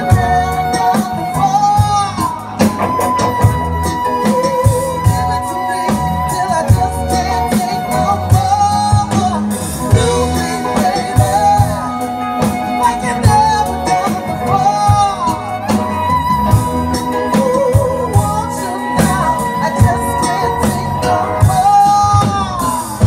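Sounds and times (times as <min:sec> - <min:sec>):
live band playing slow song: 0:00.0 - 0:23.0
person singing: 0:00.0 - 0:23.0
violin: 0:00.0 - 0:23.0.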